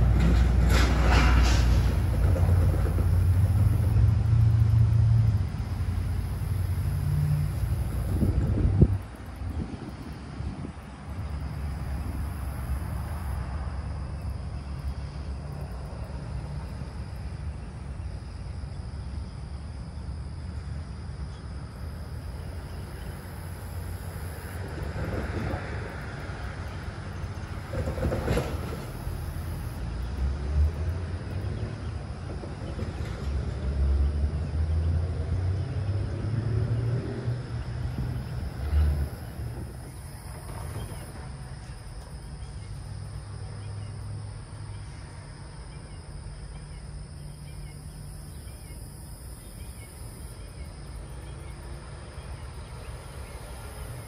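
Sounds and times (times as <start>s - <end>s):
low rumble of road traffic: 0.0s - 54.0s.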